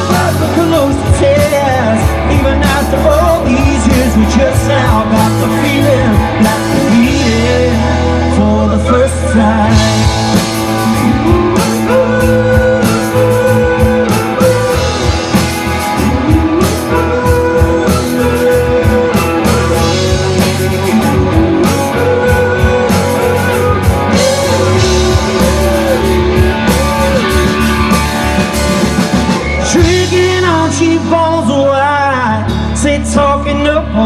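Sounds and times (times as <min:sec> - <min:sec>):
guitar melody: 0:00.0 - 0:33.2
drum kit: 0:00.0 - 0:33.4
bass guitar: 0:00.0 - 0:34.0.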